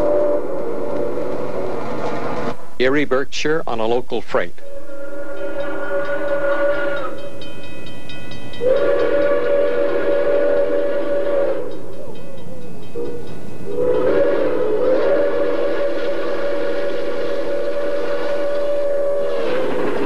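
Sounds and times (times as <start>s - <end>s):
steam locomotive whistle blasts: 0.0s - 2.3s, 4.6s - 7.5s, 8.6s - 20.0s.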